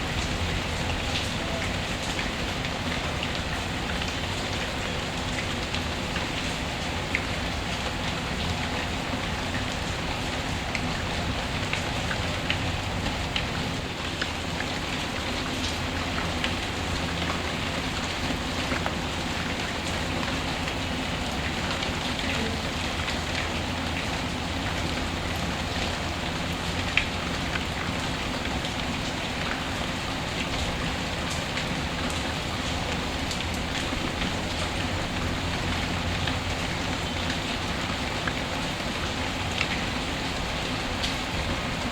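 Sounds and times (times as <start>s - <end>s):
raindrops ticking: 0.0s - 41.9s.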